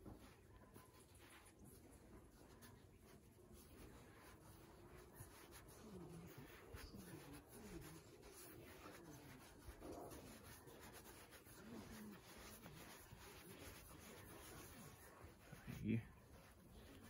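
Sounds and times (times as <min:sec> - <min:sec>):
hands rubbing: 0:00.0 - 0:17.0.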